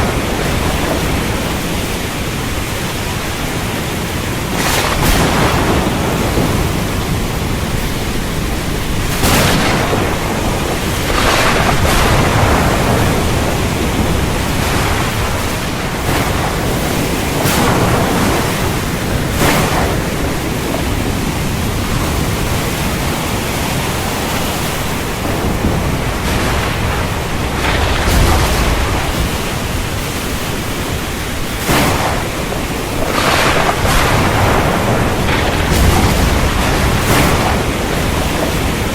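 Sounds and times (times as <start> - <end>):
heavy rain falling: 0.0 - 38.9
low thunder rumbling: 0.0 - 38.9
thunder cracks: 0.0 - 38.9.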